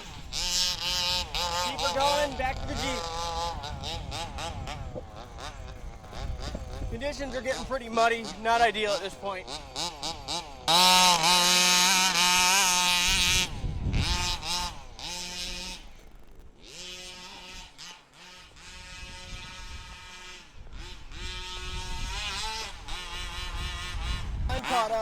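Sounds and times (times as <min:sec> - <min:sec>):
model car engine revving: 0:00.0 - 0:25.0.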